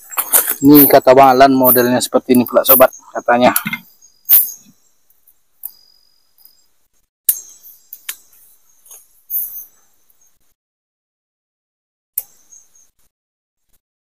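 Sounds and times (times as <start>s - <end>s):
cricket trill: 0.0s - 10.6s, 12.2s - 13.1s.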